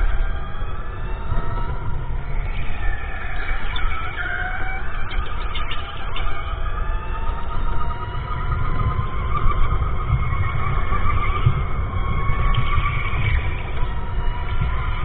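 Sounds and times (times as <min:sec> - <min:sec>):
electric motor whining: 0:00.0 - 0:15.0
low rumble of kart: 0:00.0 - 0:15.0.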